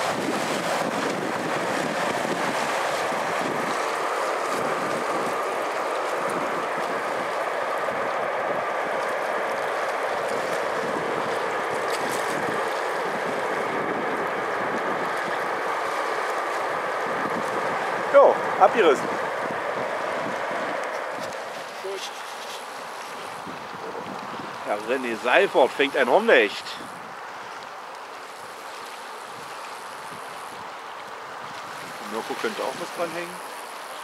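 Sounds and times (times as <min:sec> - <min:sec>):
sea waves washing against boulders: 0:00.0 - 0:34.0
wind: 0:00.0 - 0:34.0.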